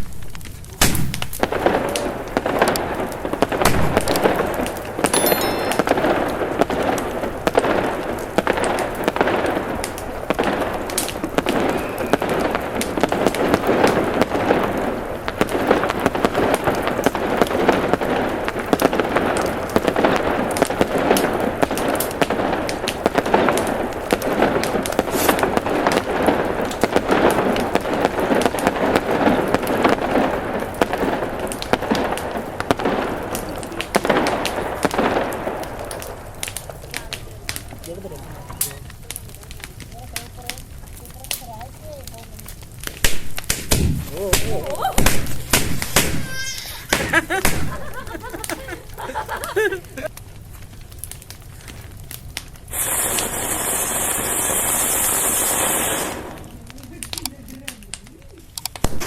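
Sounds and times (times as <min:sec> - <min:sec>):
firecrackers popping: 0:00.0 - 0:59.0
sharp firecracker cracks: 0:00.0 - 0:59.0.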